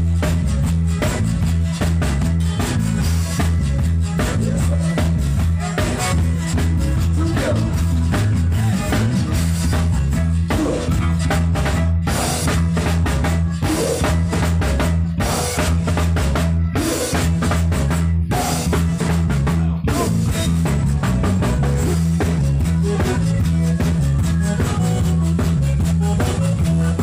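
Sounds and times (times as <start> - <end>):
electric bass line: 0.0 - 27.0
live band playing: 0.0 - 27.0.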